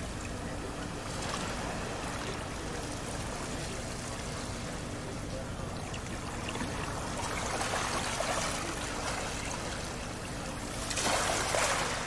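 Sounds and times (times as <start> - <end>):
small waves lapping and splashing: 0.0 - 12.0.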